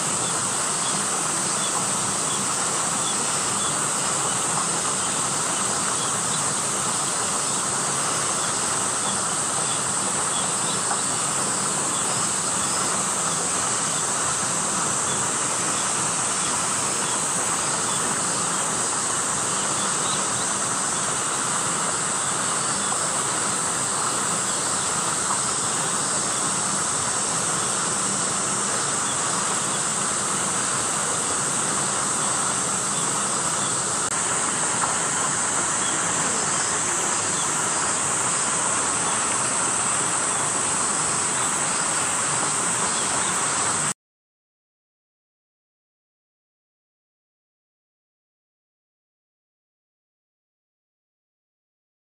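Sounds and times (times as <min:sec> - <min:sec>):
cicadas shrilling: 0:00.0 - 0:43.9.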